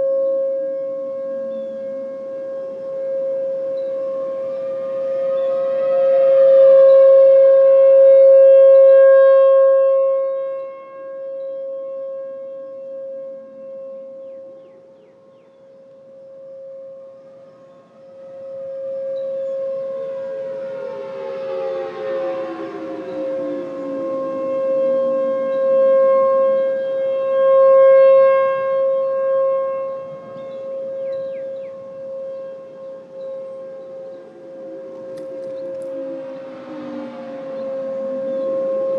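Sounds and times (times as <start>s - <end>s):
siren tone sliding downward: 0.0s - 38.9s
steady siren alert tone: 0.0s - 38.9s.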